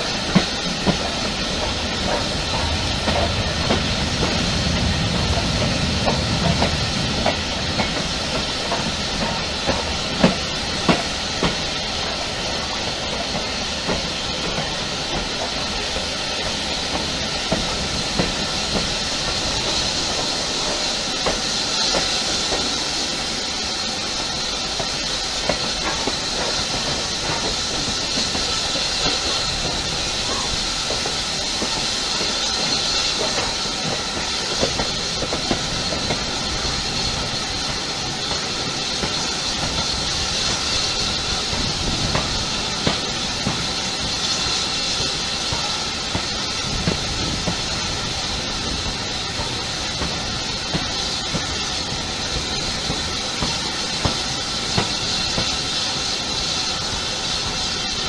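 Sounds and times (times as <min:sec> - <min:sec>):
train rushing and hissing: 0:00.0 - 0:58.0.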